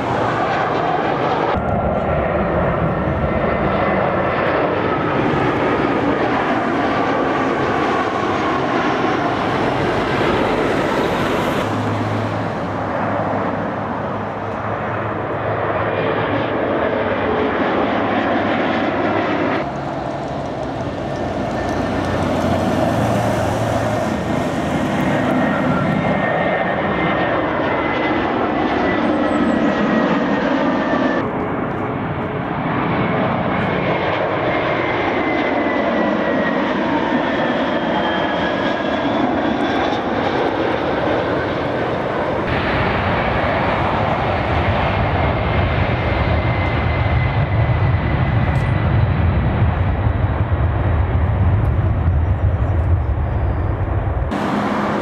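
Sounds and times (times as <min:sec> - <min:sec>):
jet airliners passing low overhead: 0:00.0 - 0:55.0.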